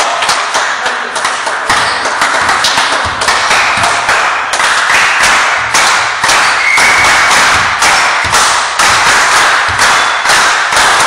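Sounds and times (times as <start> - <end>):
sports hall background noise: 0.0 - 11.0
quick uneven taps and thuds: 1.2 - 11.0.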